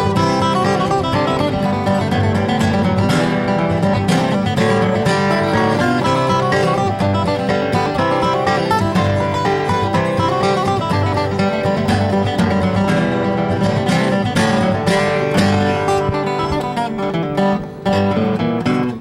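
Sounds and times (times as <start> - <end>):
acoustic guitars picking a tune: 0.0 - 19.0.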